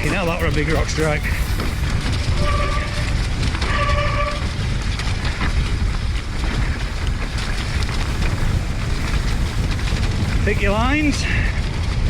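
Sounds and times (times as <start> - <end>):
bike rattling and knocking: 0.0 - 12.0
wind buffeting microphone: 0.0 - 12.0.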